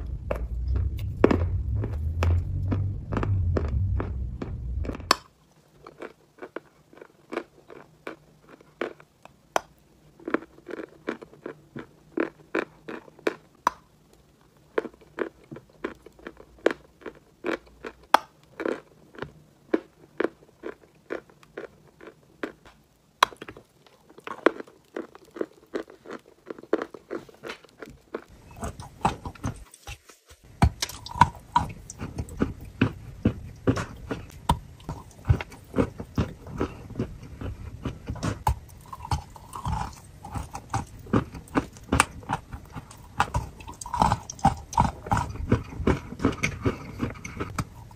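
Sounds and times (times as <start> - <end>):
crunching and chewing of mineral: 0.0 - 47.9.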